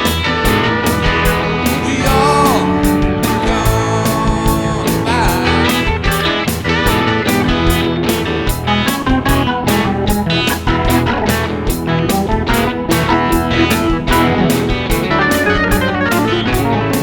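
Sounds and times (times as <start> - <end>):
rock music with steady beat: 0.0 - 17.0.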